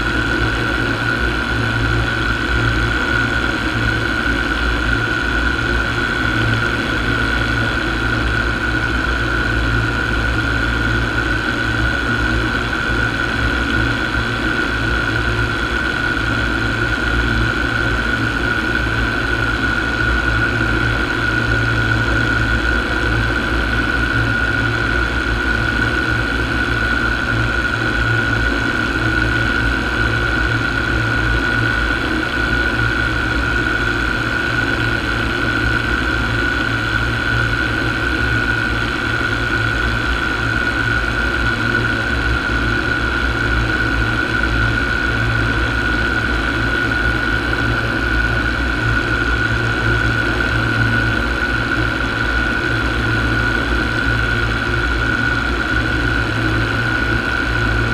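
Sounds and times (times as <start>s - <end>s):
paramotor engine droning: 0.0s - 57.9s.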